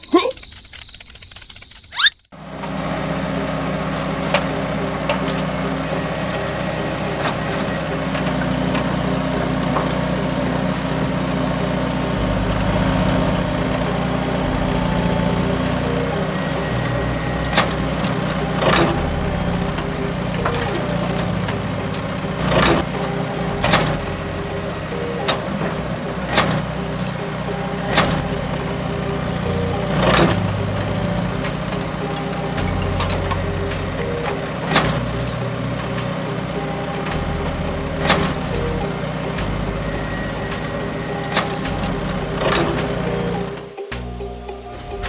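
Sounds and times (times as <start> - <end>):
small engine idling: 0.0 - 45.0.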